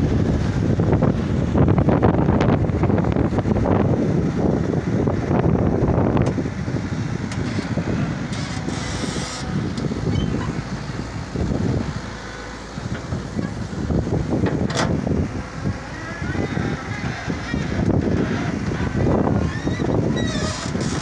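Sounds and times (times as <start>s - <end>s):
excavator diesel engine running: 0.0s - 21.0s
wind buffeting microphone: 0.0s - 21.0s.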